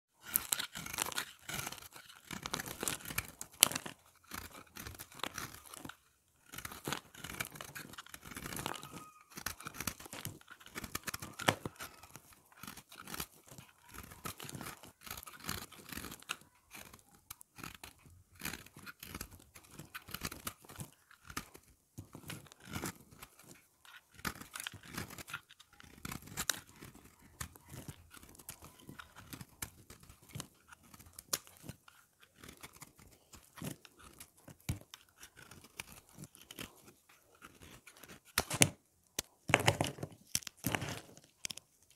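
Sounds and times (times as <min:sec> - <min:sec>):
knife blade shaving soap: 0:00.2 - 0:41.9.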